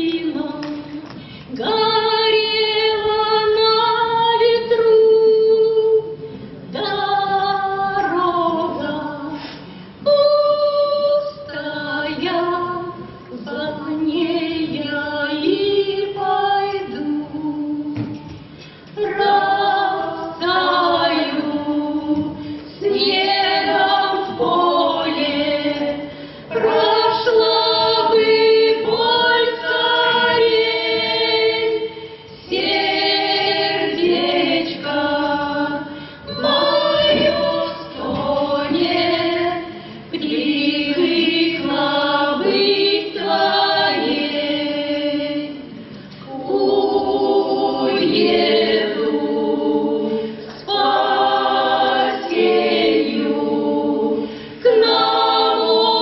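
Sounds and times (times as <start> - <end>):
choir singing: 10.0 - 18.0, 19.0 - 56.0.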